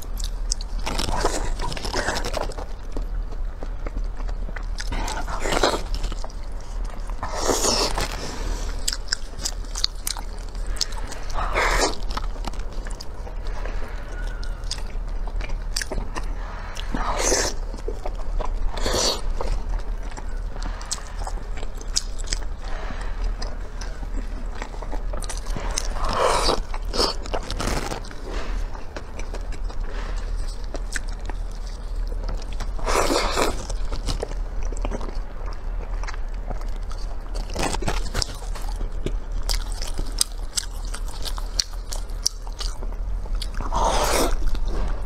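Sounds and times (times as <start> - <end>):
wet chewing and lip-smacking: 0.0 - 45.0.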